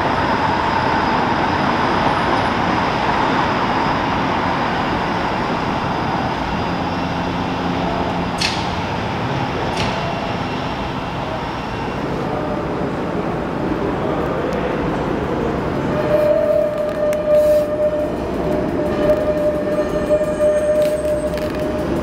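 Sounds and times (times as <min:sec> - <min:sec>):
city street traffic: 0:00.0 - 0:22.0
streetcar moving off on tracks: 0:00.0 - 0:22.0.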